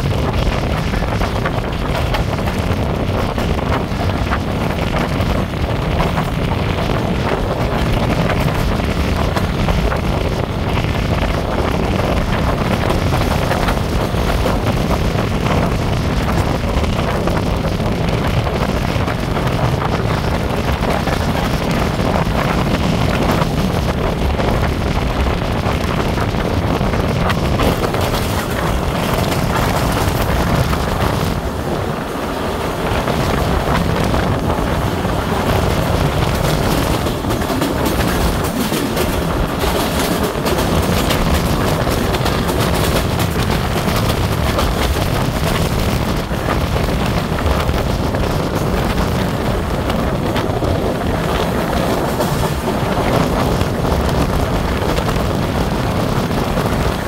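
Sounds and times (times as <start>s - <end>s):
train coaches running on track: 0.0s - 57.0s
wind rushing over microphone: 0.0s - 57.0s.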